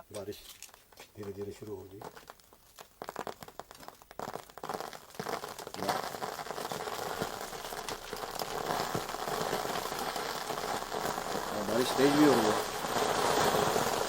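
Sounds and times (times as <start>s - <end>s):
foley rain patter: 0.5s - 14.0s.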